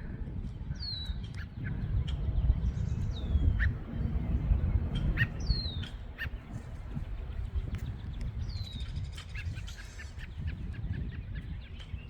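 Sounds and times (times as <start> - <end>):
low microphone rumble: 0.0 - 9.7.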